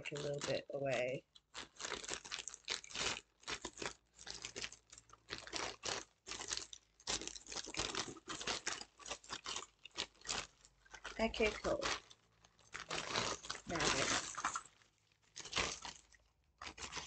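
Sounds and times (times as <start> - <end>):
plastic bag crinkling and tearing: 0.0 - 17.0.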